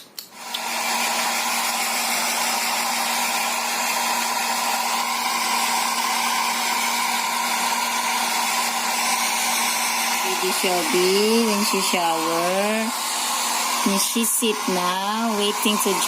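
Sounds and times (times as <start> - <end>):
blow dryer running: 0.3 - 16.0.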